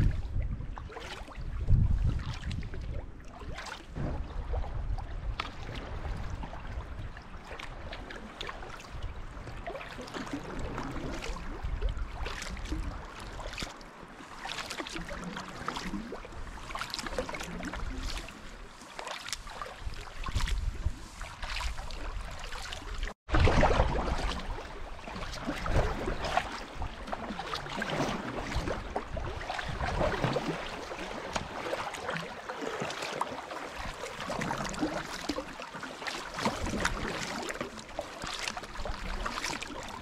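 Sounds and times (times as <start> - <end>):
paddle splashing in water: 0.0 - 40.0.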